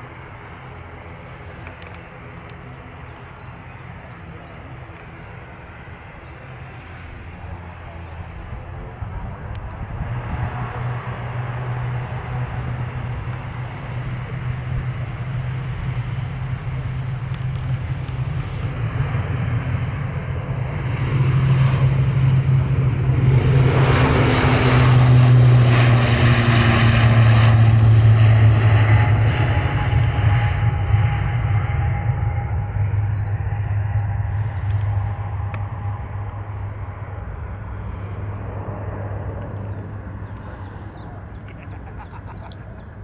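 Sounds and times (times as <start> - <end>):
airliner engines roaring: 0.0 - 43.0
high engine whine: 0.0 - 43.0.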